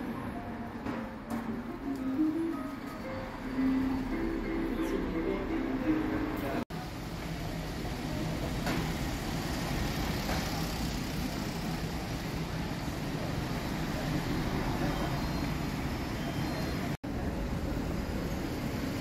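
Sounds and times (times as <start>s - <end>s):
street background noise: 0.0s - 19.0s.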